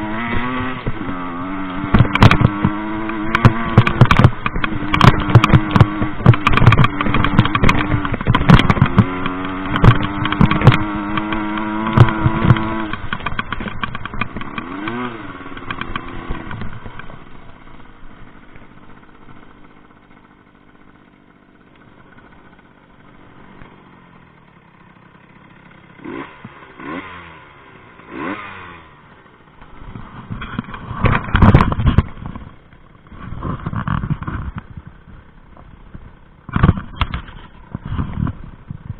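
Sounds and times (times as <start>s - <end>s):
moped engine revving: 0.0s - 38.9s
engine knocks: 0.2s - 23.8s, 29.5s - 38.9s.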